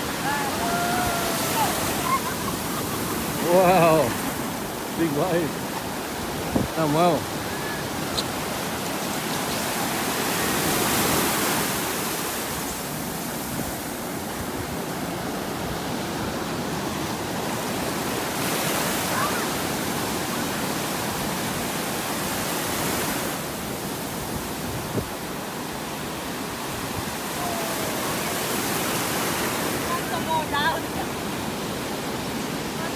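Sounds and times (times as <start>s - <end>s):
ocean surf breaking: 0.0s - 32.9s.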